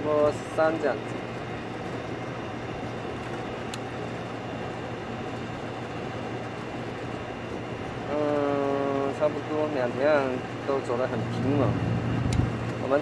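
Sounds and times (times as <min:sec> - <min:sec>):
air conditioner compressor humming: 0:00.0 - 0:13.0.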